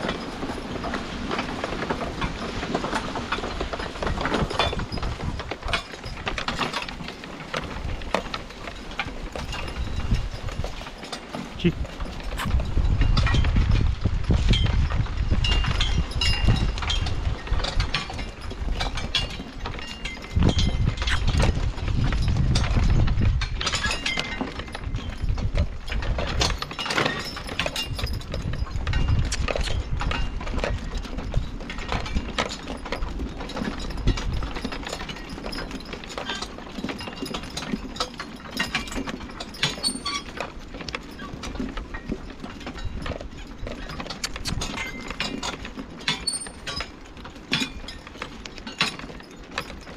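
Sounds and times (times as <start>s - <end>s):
hooves plodding: 0.0s - 49.9s.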